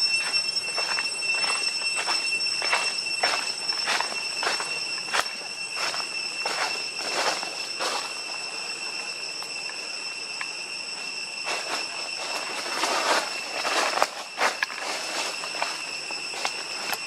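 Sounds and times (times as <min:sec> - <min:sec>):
footsteps crunching through dry leaves: 0:00.0 - 0:08.7, 0:11.5 - 0:17.0
insect drone: 0:00.0 - 0:17.0.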